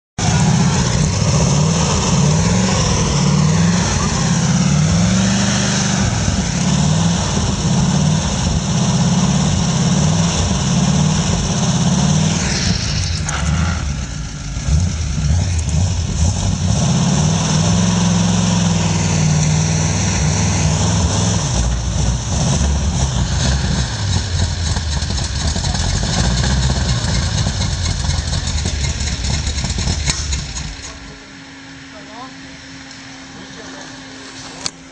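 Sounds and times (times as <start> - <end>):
jeep engine revving: 0.2 - 31.4.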